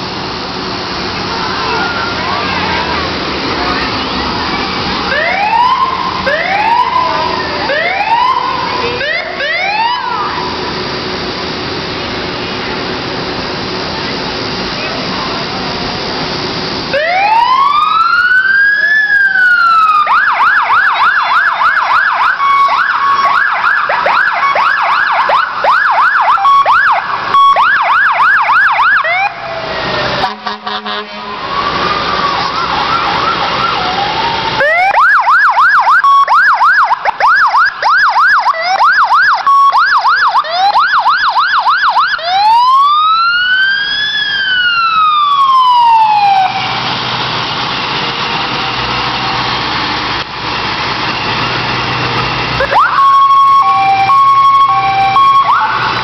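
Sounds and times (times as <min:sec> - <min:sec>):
emergency vehicle sirens wailing and yelping: 0:00.0 - 0:56.0.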